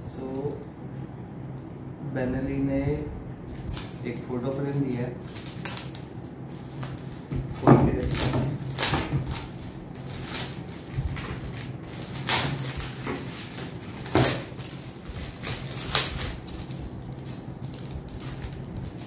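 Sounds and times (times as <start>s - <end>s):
plastic wrapping crinkling: 3.4s - 19.0s
sharp plastic crackles: 3.5s - 19.0s.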